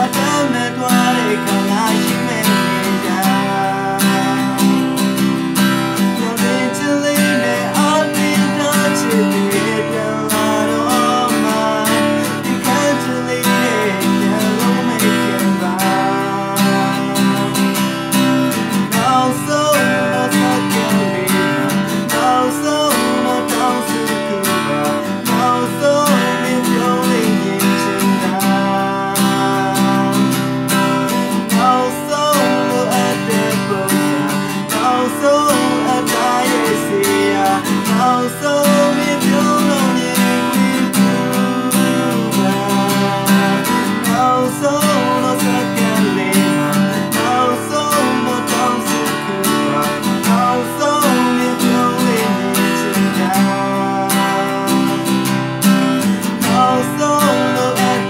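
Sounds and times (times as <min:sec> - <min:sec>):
acoustic guitar strummed: 0:00.0 - 0:58.0
man singing: 0:00.0 - 0:58.0.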